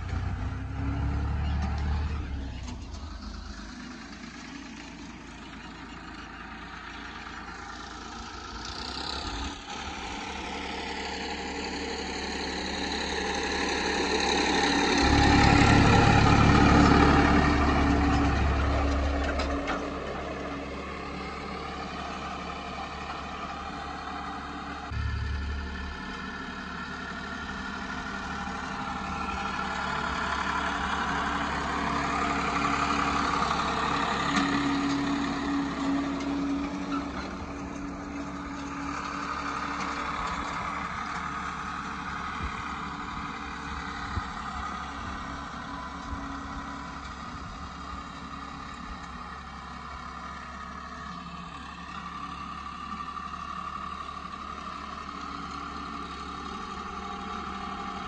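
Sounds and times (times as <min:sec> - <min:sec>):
diesel tractor engine: 0:00.0 - 0:58.0.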